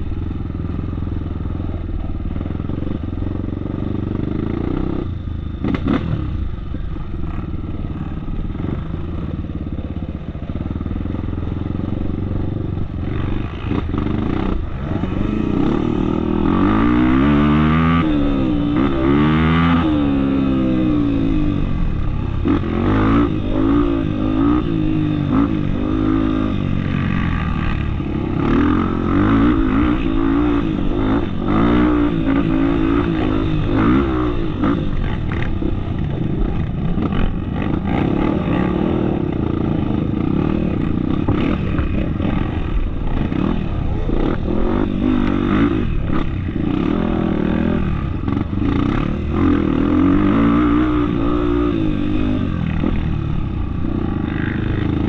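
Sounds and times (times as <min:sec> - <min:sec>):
off-road motorcycle engine revving: 0:00.0 - 0:55.0.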